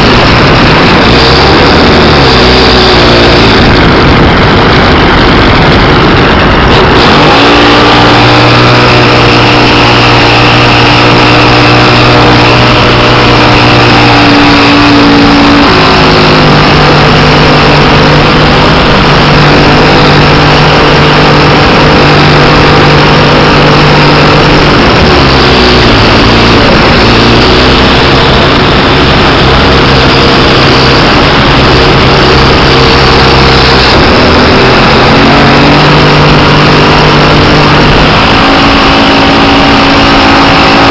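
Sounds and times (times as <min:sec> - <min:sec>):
model aircraft engine and propeller: 0:00.0 - 0:40.9.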